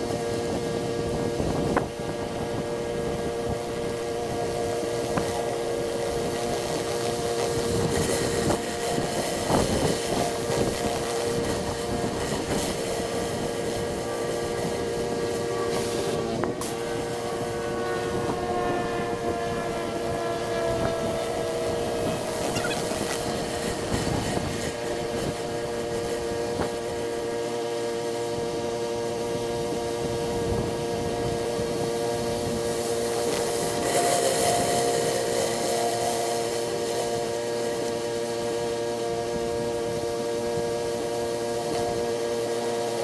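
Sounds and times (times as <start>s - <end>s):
high-pressure water spray hiss: 0.0s - 43.0s
pressure washer engine drone: 0.0s - 43.0s.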